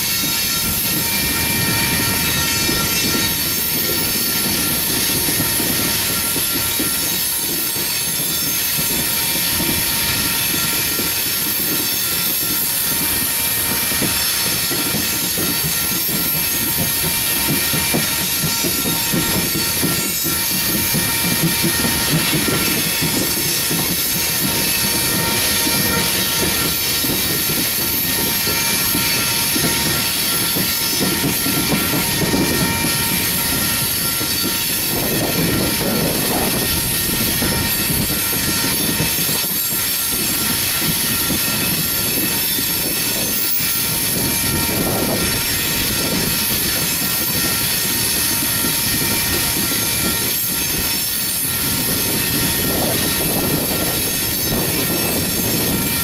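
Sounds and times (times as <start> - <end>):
train cars rumbling on rails: 0.0 - 56.0.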